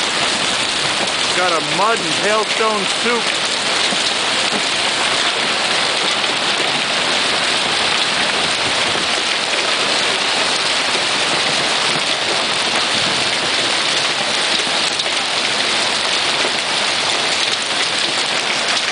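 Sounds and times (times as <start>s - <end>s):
hail and rain falling on lawn: 0.0s - 18.9s.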